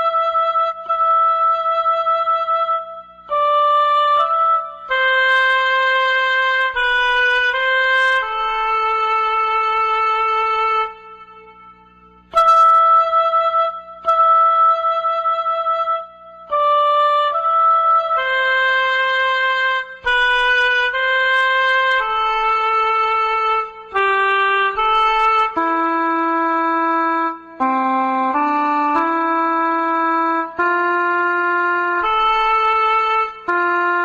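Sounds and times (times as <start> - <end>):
mournful wind instrument melody: 0.0 - 34.0.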